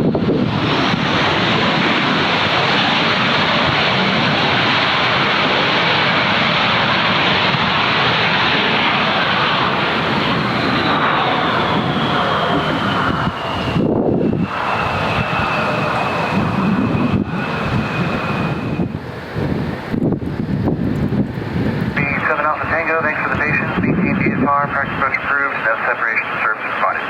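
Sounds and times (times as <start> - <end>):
jet airliner engine: 0.0 - 27.0.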